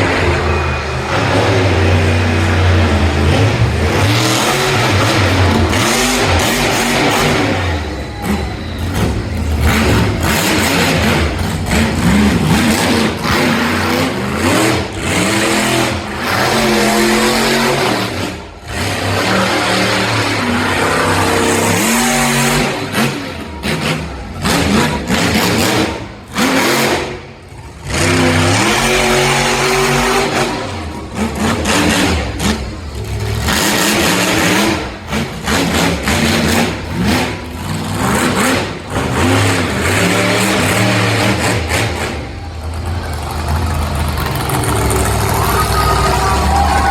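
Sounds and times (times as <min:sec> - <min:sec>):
monster truck engine revving: 0:00.0 - 0:46.9.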